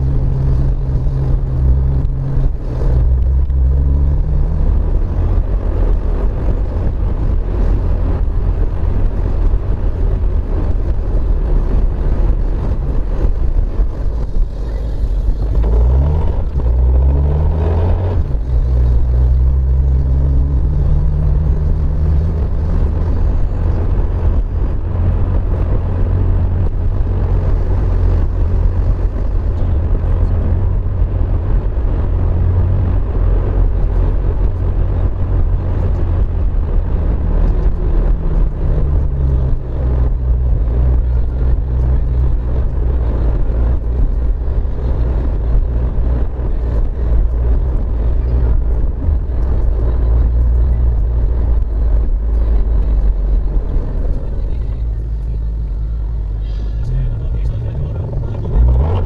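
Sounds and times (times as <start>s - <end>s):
car engine running: 0.0s - 59.0s
road noise on wet road: 0.0s - 59.0s.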